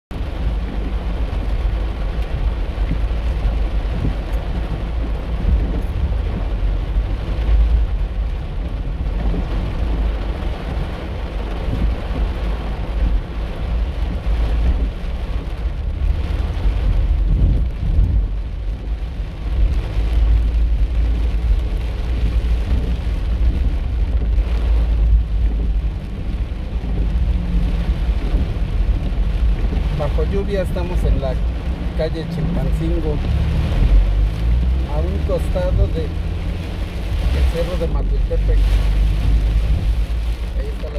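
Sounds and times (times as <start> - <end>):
car tyres rumbling on wet road: 0.1 - 40.9
heavy rain drumming on car roof: 0.1 - 40.9.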